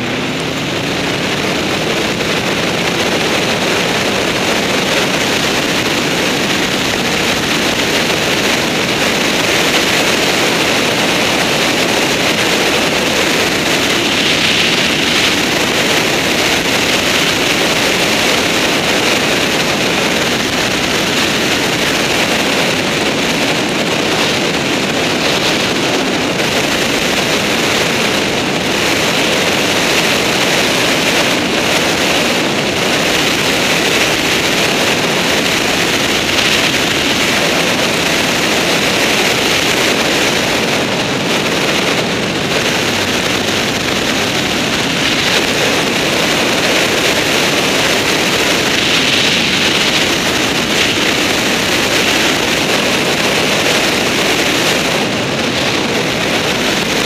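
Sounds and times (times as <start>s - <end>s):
car engine and tyres on gravel: 0.0s - 57.0s.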